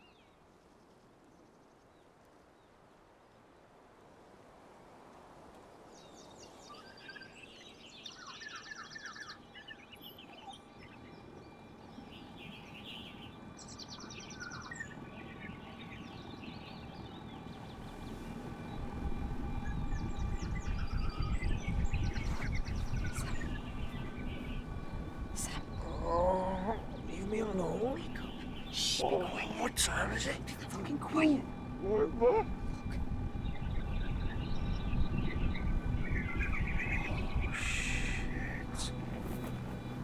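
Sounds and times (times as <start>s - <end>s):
small birds singing: 5.9s - 40.0s.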